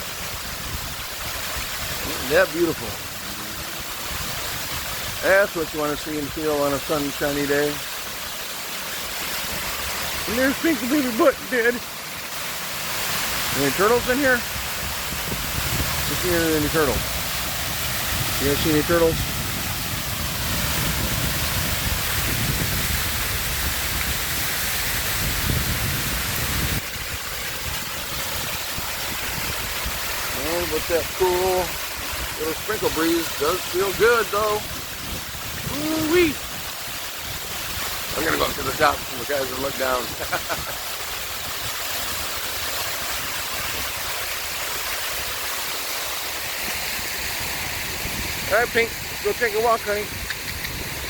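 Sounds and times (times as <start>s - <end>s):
waterfall splashing into pool: 0.0s - 51.0s.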